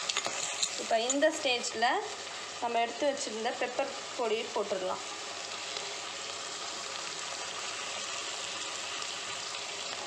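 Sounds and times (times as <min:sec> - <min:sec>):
crab frying in oil: 0:00.0 - 0:10.0.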